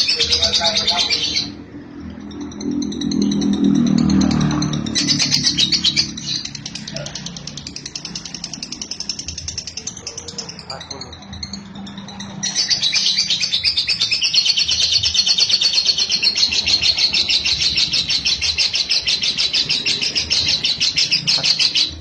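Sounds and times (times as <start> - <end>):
lovebird chattering: 0.0 - 22.0.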